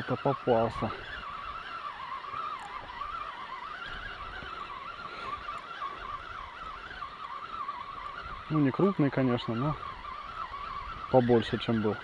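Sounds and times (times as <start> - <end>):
fishing reel clicker buzzing: 0.0 - 12.0.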